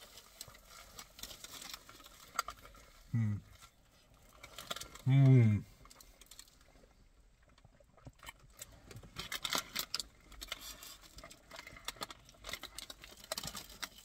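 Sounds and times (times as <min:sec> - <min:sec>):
flaky pastry crackling: 0:00.0 - 0:14.0.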